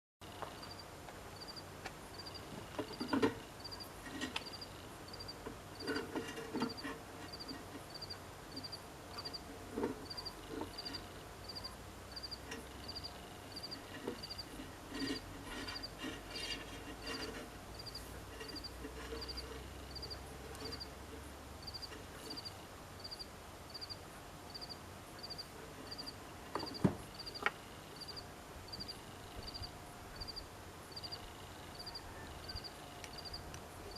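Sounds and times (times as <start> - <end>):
insect chirping: 0.6 - 6.0, 6.7 - 9.4, 10.0 - 14.5, 17.1 - 21.0, 21.6 - 33.9.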